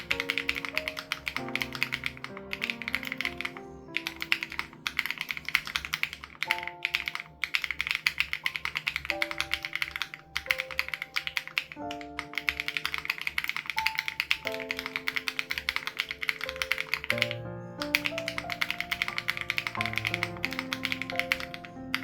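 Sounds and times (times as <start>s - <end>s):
fast typing on mechanical keyboard: 0.0s - 22.0s.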